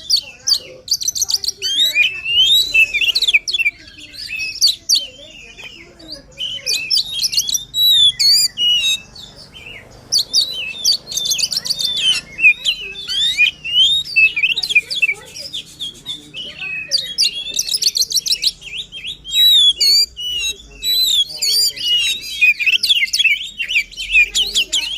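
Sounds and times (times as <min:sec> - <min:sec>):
bird singing whistled notes and trills: 0:00.0 - 0:24.9.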